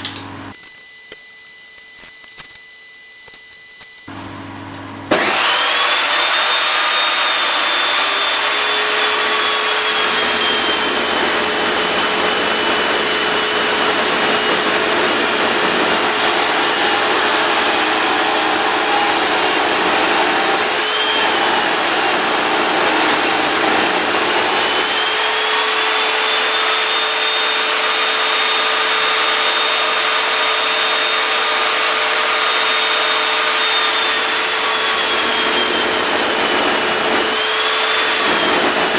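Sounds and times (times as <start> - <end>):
power saw cutting wood: 5.1 - 38.9.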